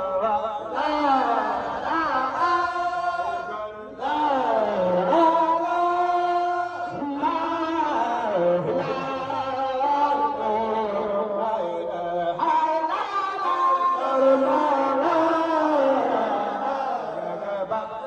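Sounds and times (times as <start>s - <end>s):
group of men chanting: 0.0s - 18.0s.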